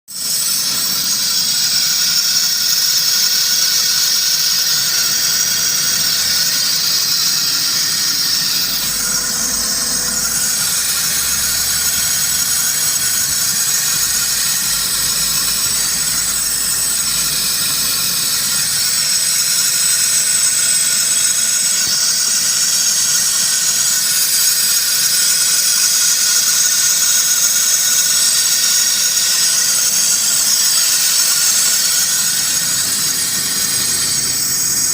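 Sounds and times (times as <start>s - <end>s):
power steering hiss and whine: 0.2s - 34.9s.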